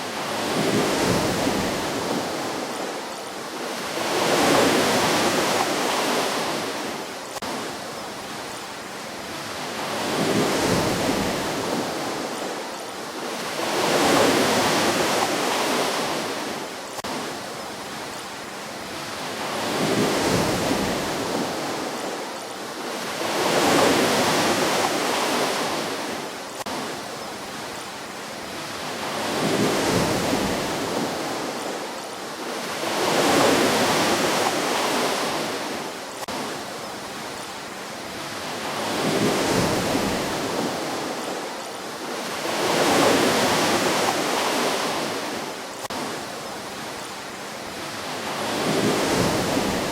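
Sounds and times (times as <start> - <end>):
ocean waves washing on shore: 0.0 - 49.9.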